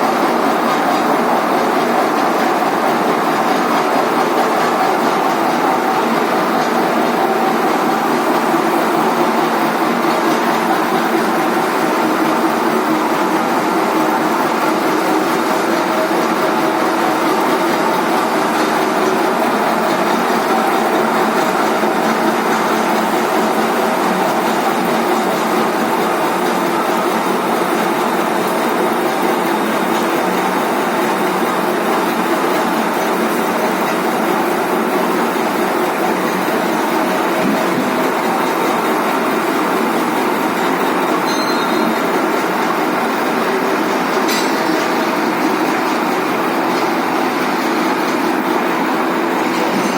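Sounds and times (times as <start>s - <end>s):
lathe machine drone: 0.0s - 49.9s.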